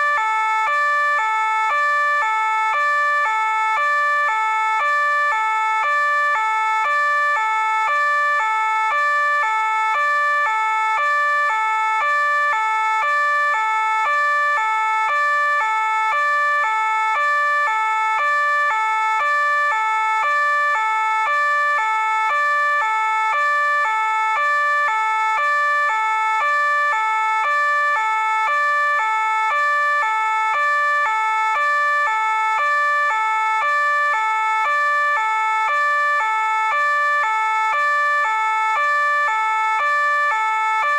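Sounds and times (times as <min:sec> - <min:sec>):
two-tone police siren: 0:00.0 - 0:40.9.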